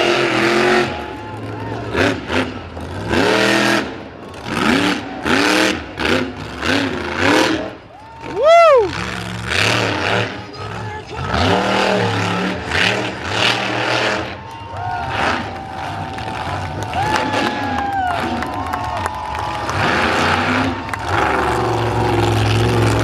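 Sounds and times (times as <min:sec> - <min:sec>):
truck engine revving hard: 0:00.0 - 0:23.0.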